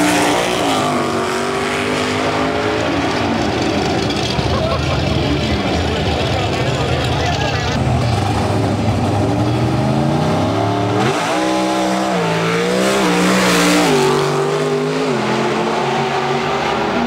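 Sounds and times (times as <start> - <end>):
drag car engine accelerating: 0.0 - 17.0.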